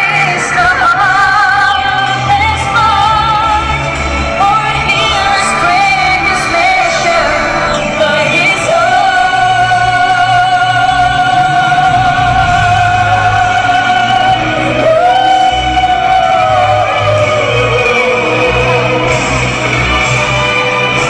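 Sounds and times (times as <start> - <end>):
backing music: 0.0 - 21.0
singers singing a ballad: 0.0 - 21.0.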